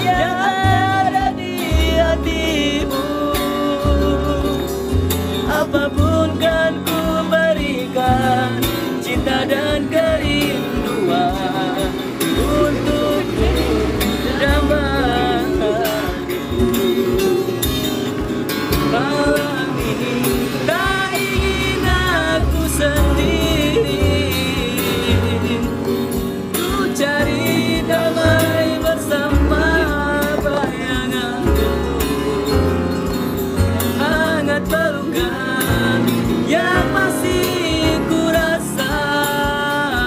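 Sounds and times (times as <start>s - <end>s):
acoustic guitar strumming: 0.0s - 40.0s
people singing: 0.0s - 40.0s.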